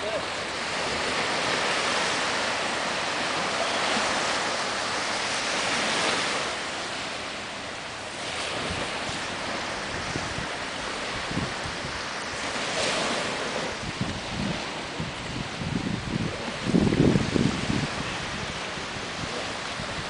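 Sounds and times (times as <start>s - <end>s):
waves washing onto sandy beach: 0.0s - 20.0s.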